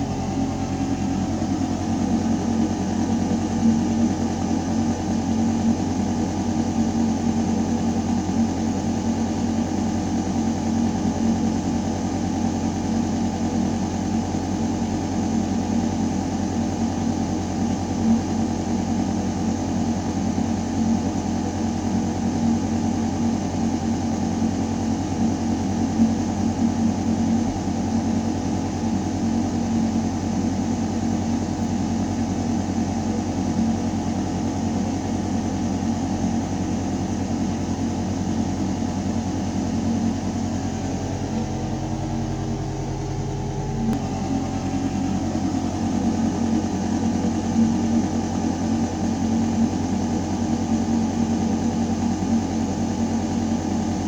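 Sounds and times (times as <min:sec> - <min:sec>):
ventilation mechanical hum: 0:00.0 - 0:54.0.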